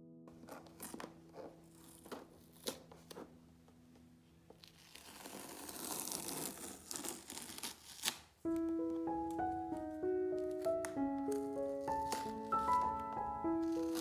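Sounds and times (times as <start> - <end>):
tape peeling off canvas: 0.3 - 3.3, 4.6 - 14.0.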